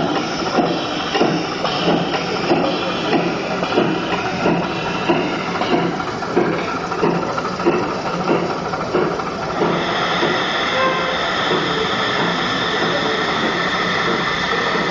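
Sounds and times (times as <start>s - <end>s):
soft regular chuffing: 0.0s - 14.9s
steam locomotive hissing: 0.0s - 14.9s.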